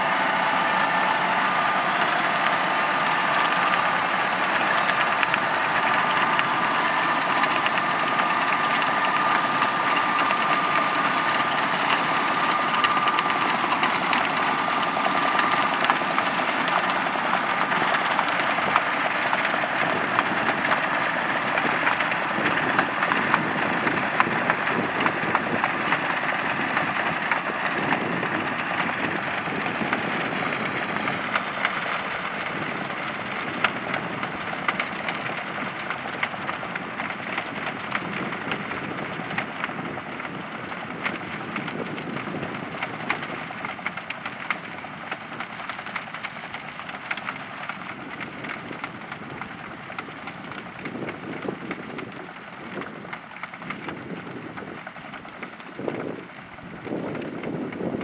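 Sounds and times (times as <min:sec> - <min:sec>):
manure spreader ticking: 0:00.0 - 0:58.0
tractor engine under load: 0:00.0 - 0:58.0.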